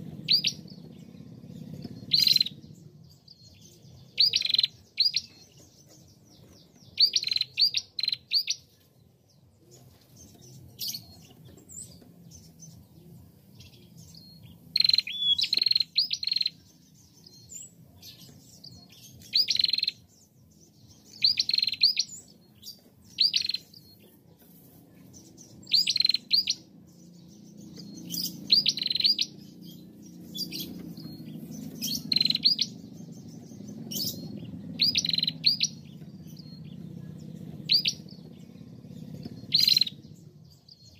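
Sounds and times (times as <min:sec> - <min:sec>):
bird chirping rapidly: 0:00.0 - 0:08.8, 0:13.5 - 0:24.1, 0:24.9 - 0:40.9.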